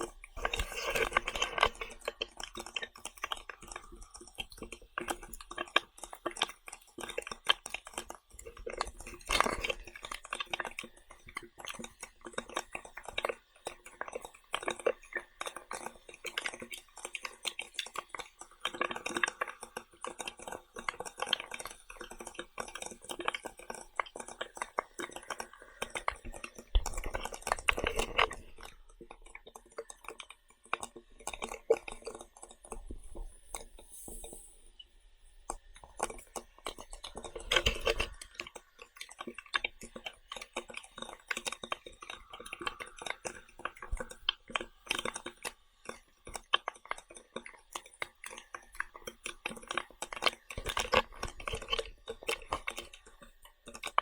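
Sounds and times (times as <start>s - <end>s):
person chewing: 0.0s - 34.4s, 35.4s - 54.0s
small clicks and crackles: 0.0s - 54.0s.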